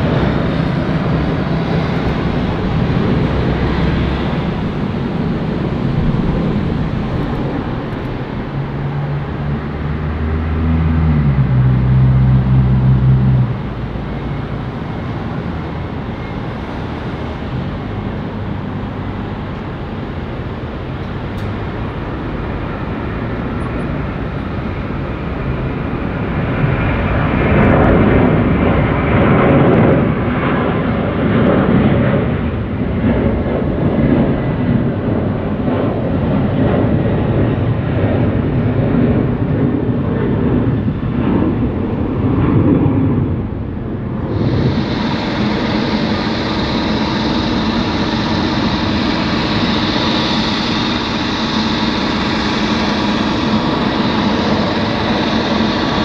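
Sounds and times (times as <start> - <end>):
jet engines at takeoff: 0.0 - 56.0.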